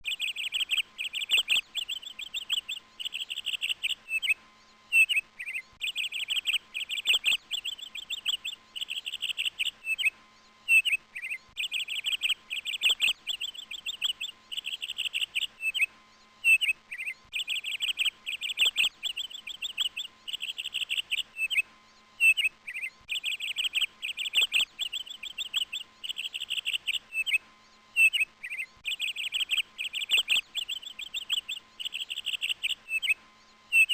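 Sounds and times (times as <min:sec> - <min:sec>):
bird chirps and trills: 0:00.0 - 0:33.9.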